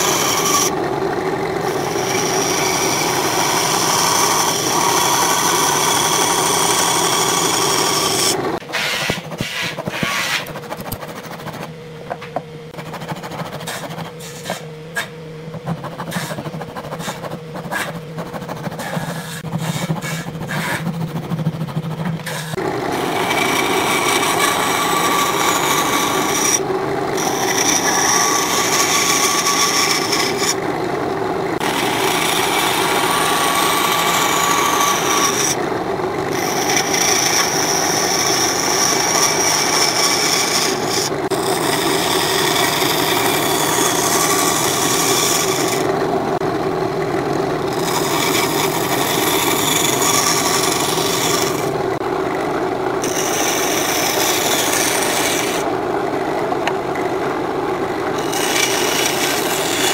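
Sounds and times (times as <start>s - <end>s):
handsaw cutting wood: 0.0s - 11.6s, 12.8s - 15.1s, 15.7s - 30.7s, 31.6s - 35.6s, 36.2s - 46.0s, 47.6s - 51.8s, 53.0s - 55.7s, 58.1s - 59.9s
bandsaw motor running: 0.0s - 59.9s.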